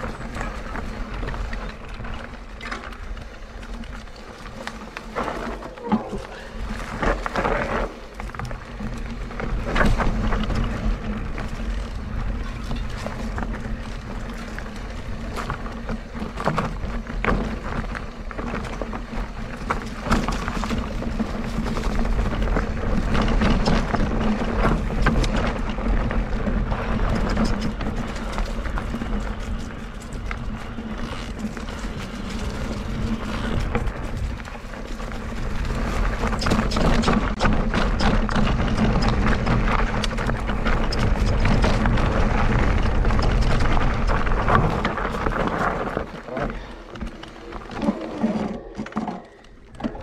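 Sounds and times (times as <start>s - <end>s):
bike knocking and rattling: 0.0s - 50.0s
bike tyres rolling on dirt: 0.0s - 50.0s.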